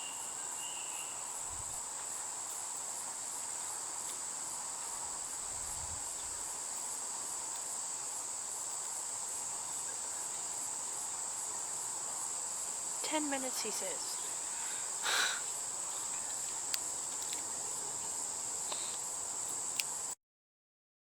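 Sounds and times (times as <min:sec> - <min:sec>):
crickets chirring: 0:00.0 - 0:20.2.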